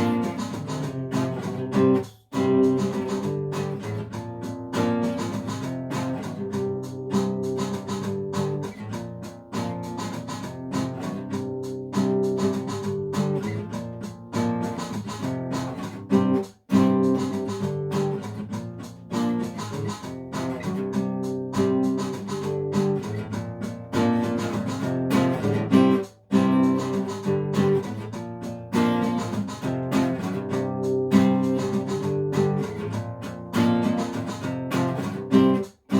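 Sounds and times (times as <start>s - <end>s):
acoustic guitar strumming: 0.0s - 35.9s.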